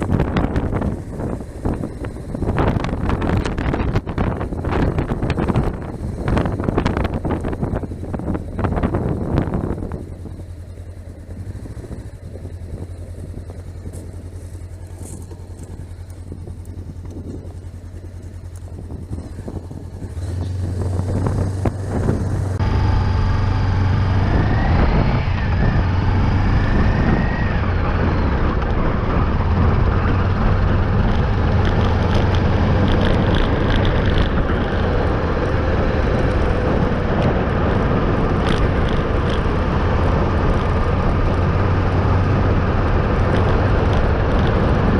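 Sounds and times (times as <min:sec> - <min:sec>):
motorcycle engine drone: 0:00.0 - 0:44.9
road noise: 0:00.0 - 0:44.9.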